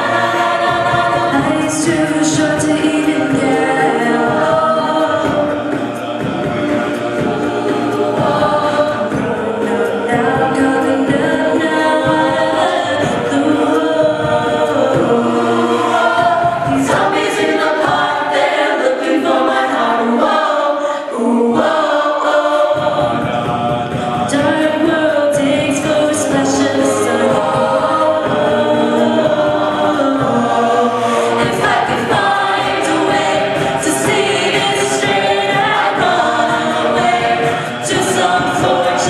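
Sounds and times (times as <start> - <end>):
a cappella group singing in harmony: 0.0 - 39.0.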